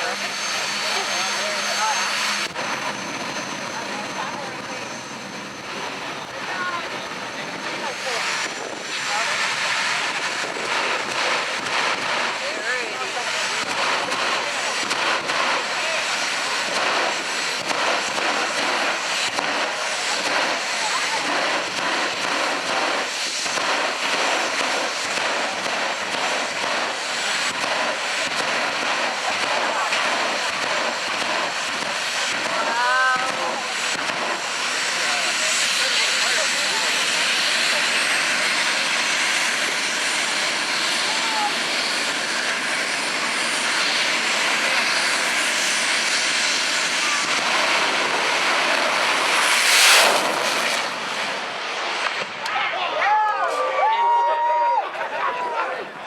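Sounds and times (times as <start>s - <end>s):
jet engine roaring: 0.0s - 54.0s.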